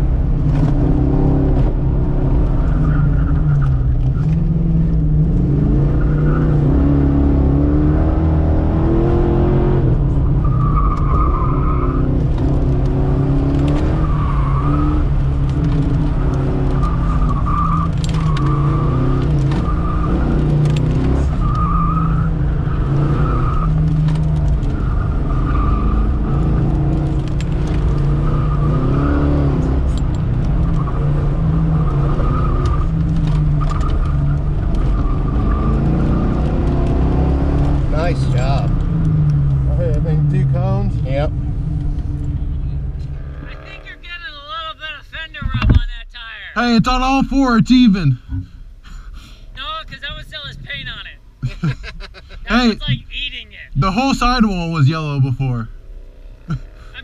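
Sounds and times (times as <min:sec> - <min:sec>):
car engine revving: 0:00.0 - 0:44.6, 0:52.4 - 0:57.0.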